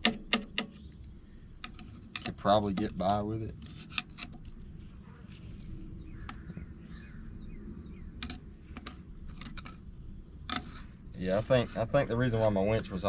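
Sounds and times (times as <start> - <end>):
bird chirping: 0.0 - 13.0
low outdoor rumble: 0.0 - 13.0.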